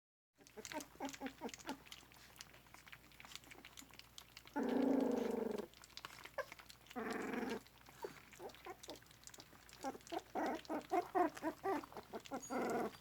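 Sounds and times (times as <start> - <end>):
puppies eating: 0.4 - 13.0.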